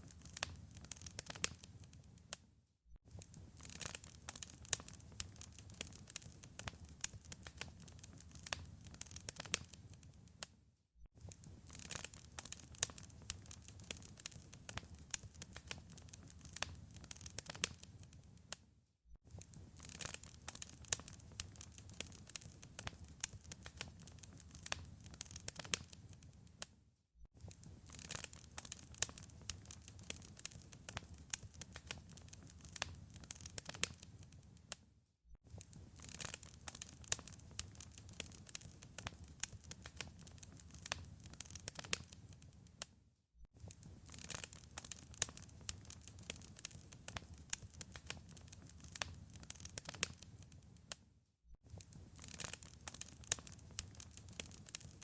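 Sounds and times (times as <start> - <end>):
wood fire crackling: 0.0 - 2.4, 3.1 - 10.5, 11.2 - 18.6, 19.3 - 26.7, 27.4 - 34.8, 35.5 - 42.9, 43.6 - 51.0, 51.7 - 55.0.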